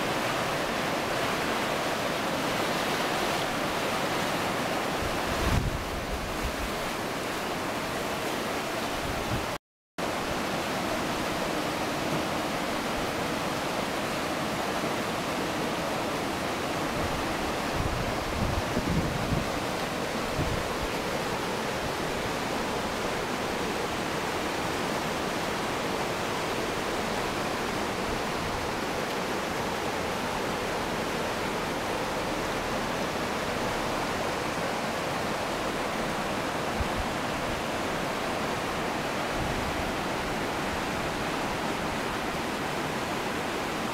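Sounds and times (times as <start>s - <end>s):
river water rushing over rocks: 0.0s - 43.9s.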